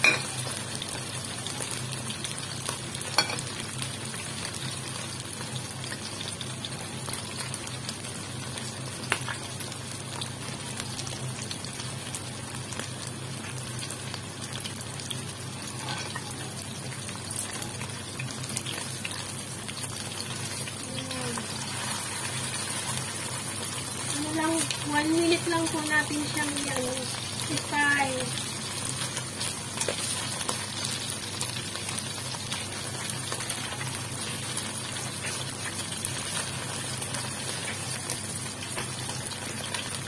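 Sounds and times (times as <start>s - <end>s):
livers sizzling in hot oil: 0.0s - 40.0s.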